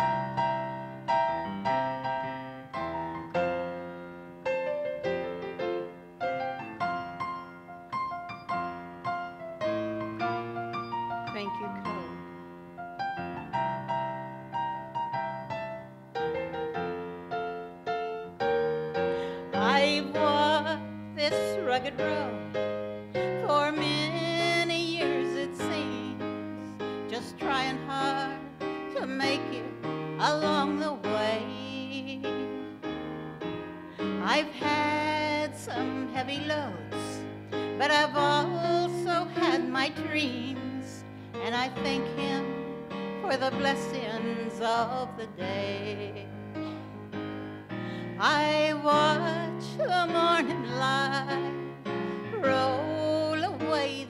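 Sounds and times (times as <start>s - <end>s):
keyboard chords: 0.0s - 54.0s.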